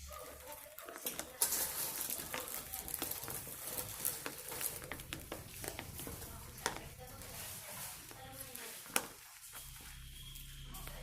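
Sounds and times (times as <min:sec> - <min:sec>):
slime being stirred: 0:00.0 - 0:11.0.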